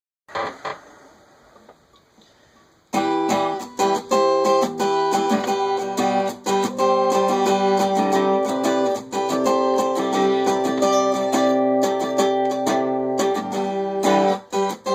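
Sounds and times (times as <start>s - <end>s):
acoustic guitar strumming chords: 2.9s - 14.9s.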